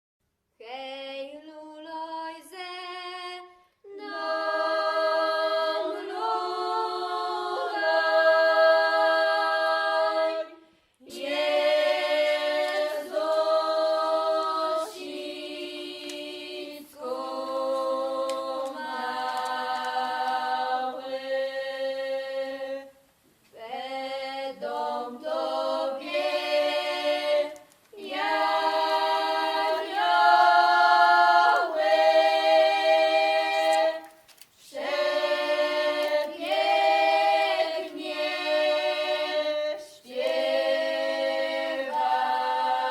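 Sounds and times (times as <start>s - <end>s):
choir singing unaccompanied: 3.8s - 23.0s, 23.6s - 42.9s.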